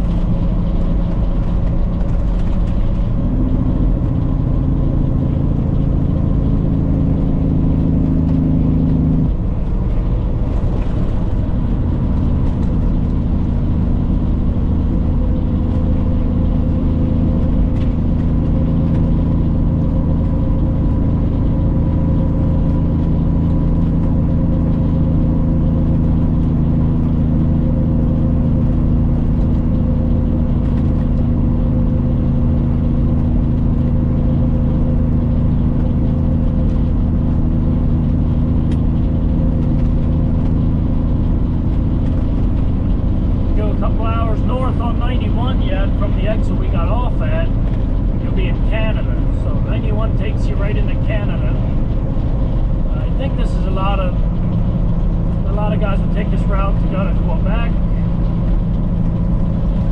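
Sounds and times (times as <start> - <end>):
diesel truck engine droning: 0.0 - 59.9
road rumble: 0.0 - 59.9.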